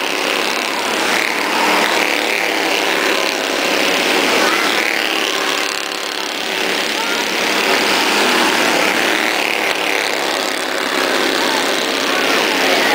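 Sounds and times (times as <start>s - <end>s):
race car engines passing: 0.0s - 12.9s.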